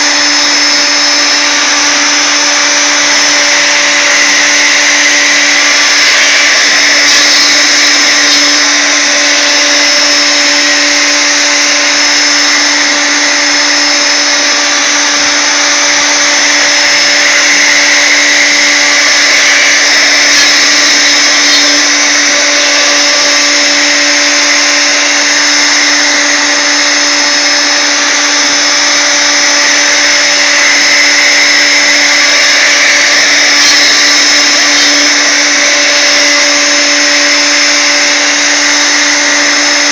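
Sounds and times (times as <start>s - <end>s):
router motor whine: 0.0s - 39.9s.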